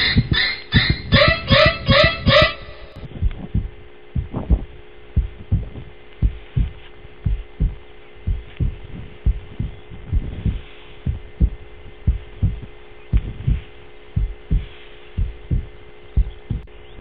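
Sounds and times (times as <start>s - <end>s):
higher rhythmic layer: 0.0s - 16.7s
heartbeat thumps: 0.0s - 17.0s
steady low hum: 0.0s - 17.0s.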